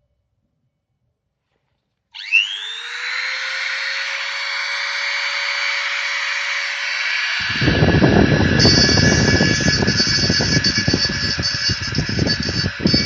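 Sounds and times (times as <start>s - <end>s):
high-speed motor whine: 2.2s - 13.0s.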